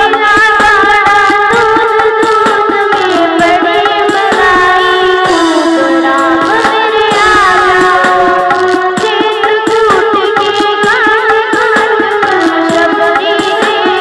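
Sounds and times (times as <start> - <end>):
child singing devotional song: 0.0 - 14.0
instrumental accompaniment: 0.0 - 14.0
steady drum beat: 0.0 - 14.0.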